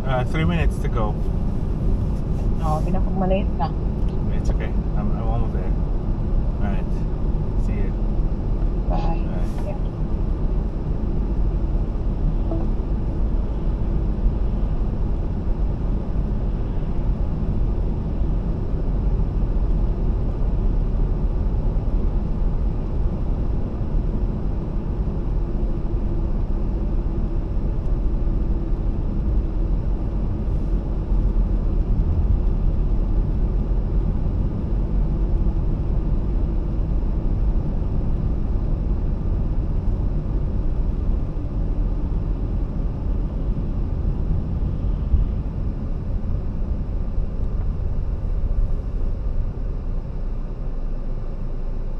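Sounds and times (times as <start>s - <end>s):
road and engine rumble in car: 0.0s - 51.9s.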